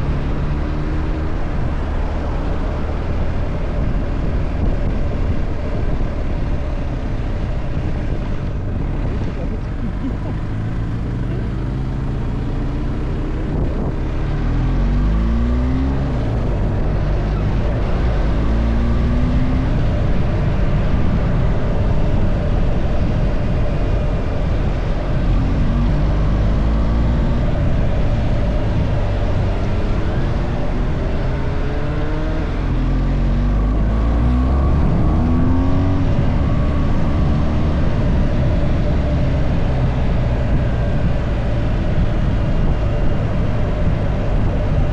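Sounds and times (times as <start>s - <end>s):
car engine accelerating: 0.0s - 44.9s
road noise: 0.0s - 44.9s.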